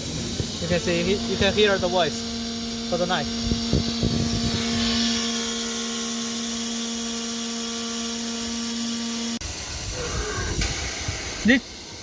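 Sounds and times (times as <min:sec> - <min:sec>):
oscillating knife head humming: 0:00.0 - 0:12.0.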